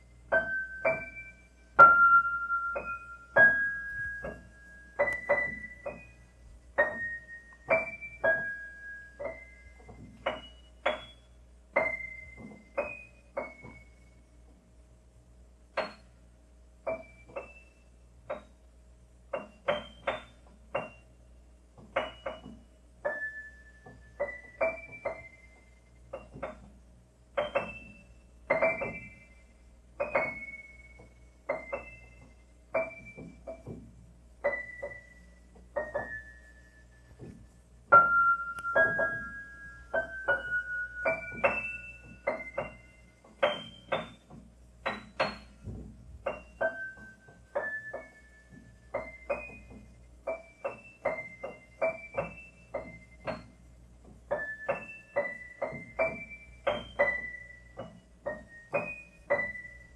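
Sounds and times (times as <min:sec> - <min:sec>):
slow gentle piano music: 0:00.0 - 0:14.9, 0:15.6 - 0:59.9.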